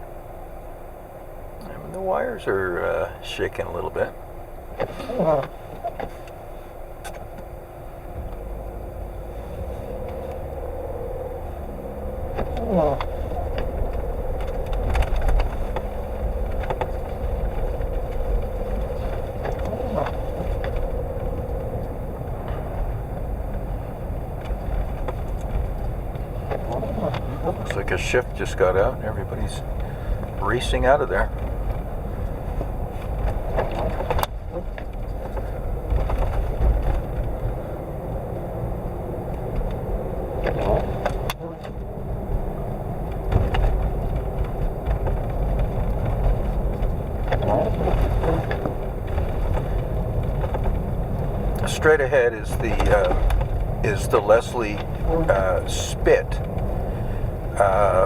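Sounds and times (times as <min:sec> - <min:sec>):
road and engine rumble: 0:00.0 - 0:58.0
steady hum: 0:00.0 - 0:58.0
windshield wipers sweeping: 0:00.0 - 0:58.0.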